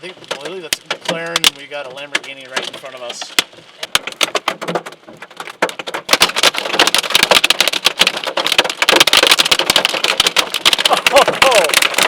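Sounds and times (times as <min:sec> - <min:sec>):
hail pelting vehicles: 0:00.0 - 0:12.0.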